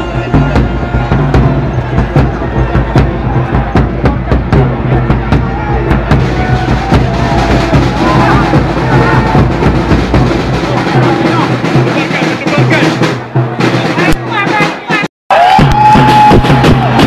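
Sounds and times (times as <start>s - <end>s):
drums beating: 0.0s - 17.0s
football crowd chanting and singing: 0.0s - 17.0s.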